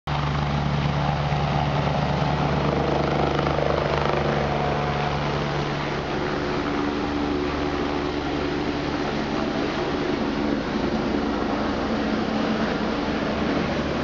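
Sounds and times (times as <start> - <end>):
helicopter rotor beat: 0.1 - 14.0
turbine whine: 0.1 - 14.0.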